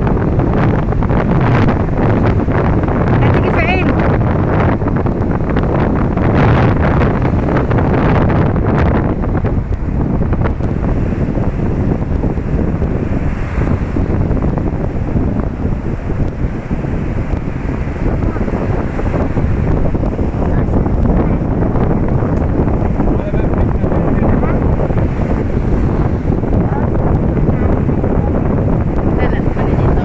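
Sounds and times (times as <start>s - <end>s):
sea waves washing: 0.0s - 30.0s
wind buffeting microphone: 0.0s - 30.0s.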